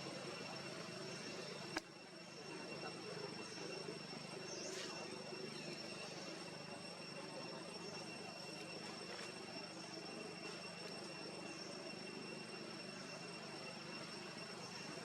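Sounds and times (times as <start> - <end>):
high-pitched hum: 0.0 - 15.0.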